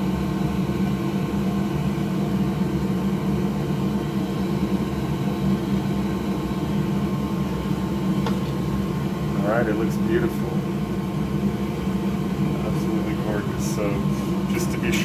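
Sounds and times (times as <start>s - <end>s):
electric fan whirring: 0.0s - 15.0s.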